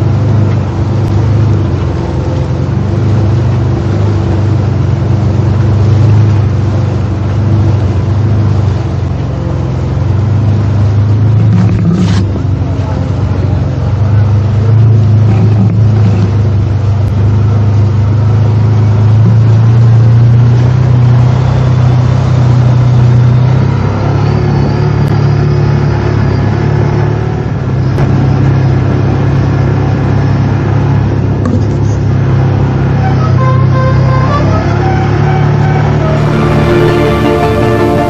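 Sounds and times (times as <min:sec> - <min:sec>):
atv engine running: 0:00.0 - 0:36.1.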